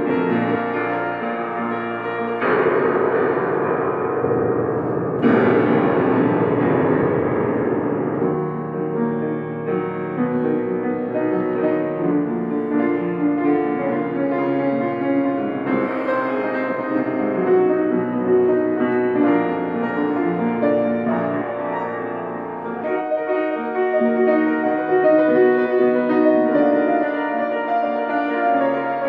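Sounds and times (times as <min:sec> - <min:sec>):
slow solo piano music: 0:00.0 - 0:29.0.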